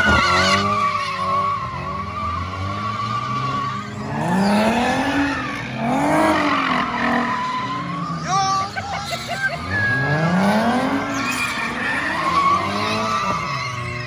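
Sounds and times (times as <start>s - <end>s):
car engine revving: 0.0s - 14.0s
tires squealing: 0.0s - 14.0s.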